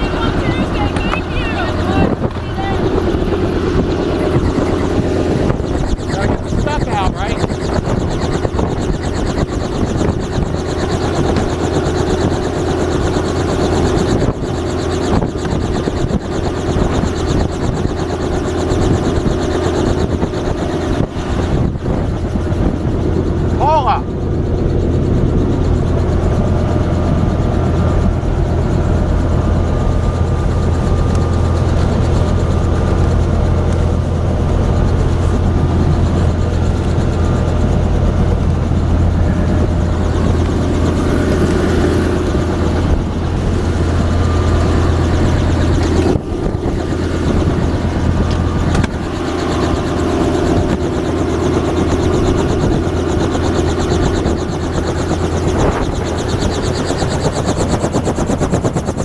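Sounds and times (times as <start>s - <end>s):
helicopter engine and rotor idling: 0.0s - 59.0s.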